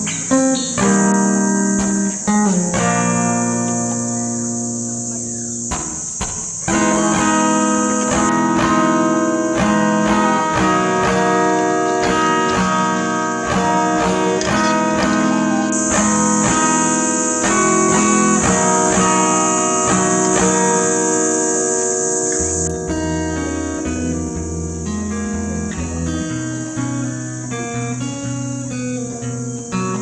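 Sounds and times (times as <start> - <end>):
acoustic guitar picking and strumming: 0.0 - 30.0.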